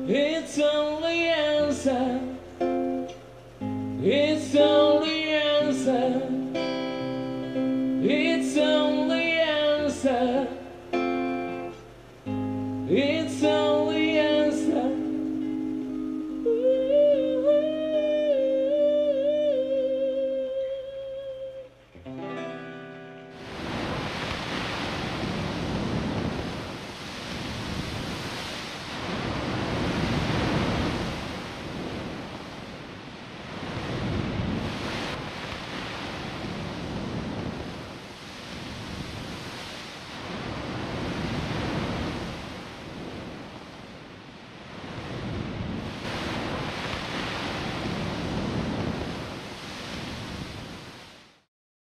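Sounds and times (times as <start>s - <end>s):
ocean waves rushing: 0.0s - 51.5s.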